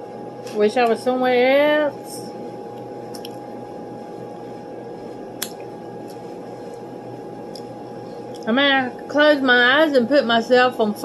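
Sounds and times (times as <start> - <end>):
equipment hum and hiss: 0.0 - 11.0
thin steady whine: 0.0 - 11.0.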